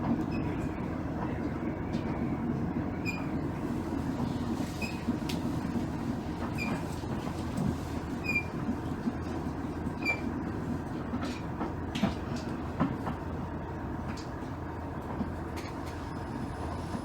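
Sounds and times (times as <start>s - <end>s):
railcar low rumble: 0.0s - 17.0s.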